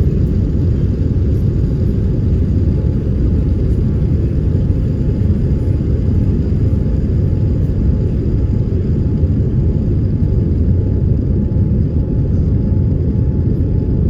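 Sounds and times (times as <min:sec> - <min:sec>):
airliner engine rumble in cabin: 0:00.0 - 0:14.0.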